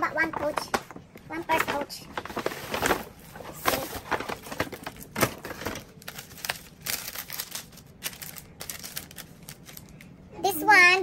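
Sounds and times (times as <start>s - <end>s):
tissue paper rustling and crinkling: 0.2s - 10.0s.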